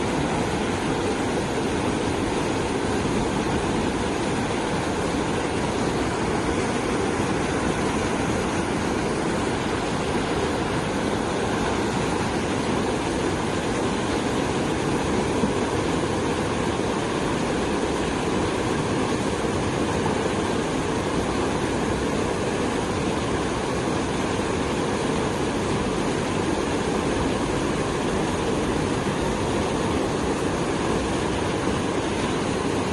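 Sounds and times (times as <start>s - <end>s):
river water rushing: 0.0s - 32.9s.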